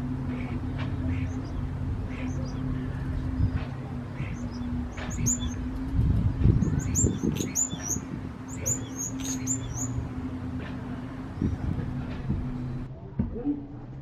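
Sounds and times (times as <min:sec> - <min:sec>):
steady low hum: 0:00.0 - 0:14.0
small birds chirping: 0:00.1 - 0:12.9.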